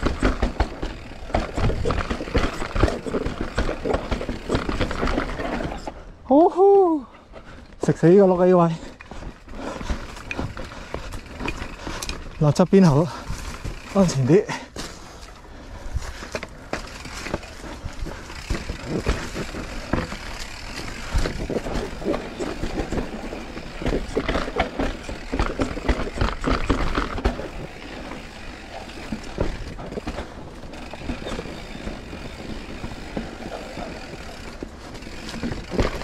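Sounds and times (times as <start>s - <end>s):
bike clattering and knocking: 0.0s - 5.9s, 9.1s - 15.4s, 16.1s - 36.0s
bike tyres on dirt: 0.0s - 36.0s.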